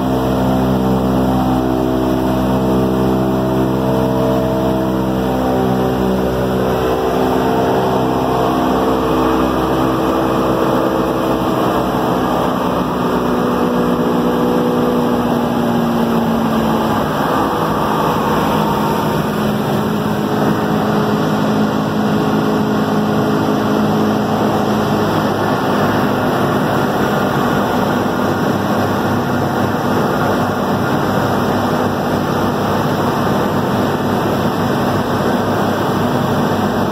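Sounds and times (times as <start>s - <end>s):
radial aircraft engines droning: 0.0s - 36.9s
rush of airflow: 4.4s - 36.9s.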